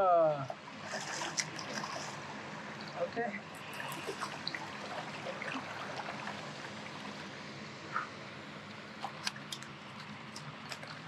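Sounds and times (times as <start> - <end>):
river water trickling and lapping: 0.3 - 11.0.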